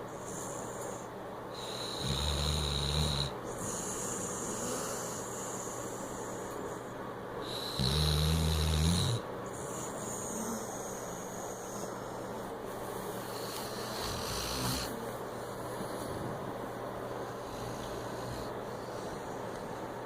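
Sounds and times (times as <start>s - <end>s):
dog snoring: 0.0s - 12.5s, 13.1s - 16.1s, 17.1s - 19.9s.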